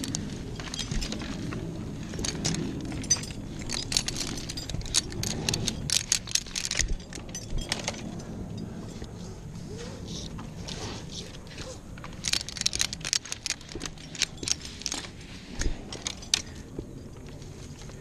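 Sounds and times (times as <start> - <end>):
small metal objects clinking: 0.0 - 9.1, 11.6 - 18.0.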